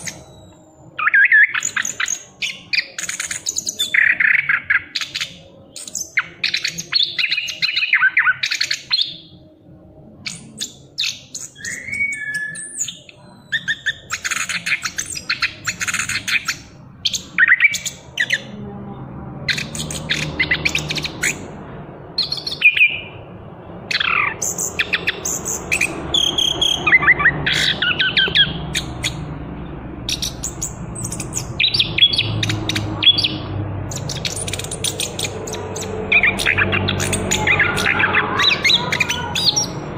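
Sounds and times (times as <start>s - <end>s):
thrush singing: 0.0s - 39.9s.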